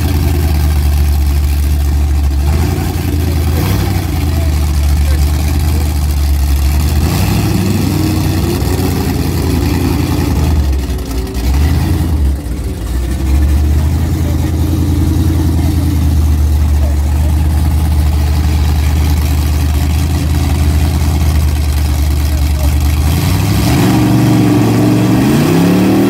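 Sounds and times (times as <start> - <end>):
engine idling loudly: 0.0 - 26.0.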